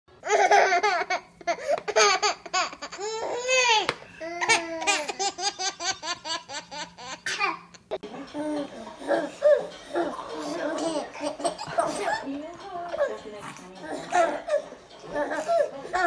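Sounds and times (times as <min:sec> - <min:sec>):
toddler laughing: 0:00.2 - 0:12.3, 0:13.9 - 0:16.0.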